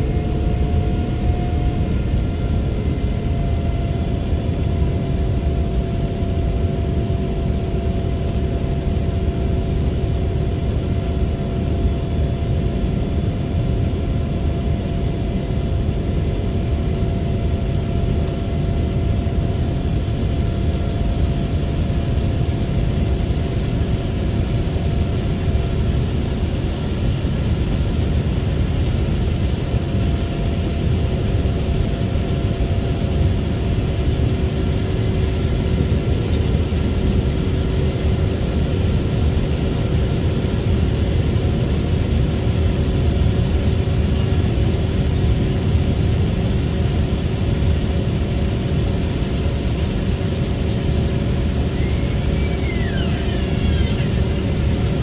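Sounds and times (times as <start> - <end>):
aircraft cabin engine rush: 0.0 - 55.0
faint steady hums: 0.0 - 55.0.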